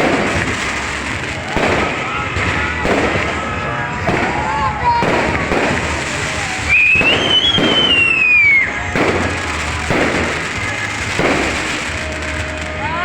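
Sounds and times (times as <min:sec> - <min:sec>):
firework bangs and bursts: 0:00.0 - 0:13.0
whistling firework shrieking: 0:00.0 - 0:13.0.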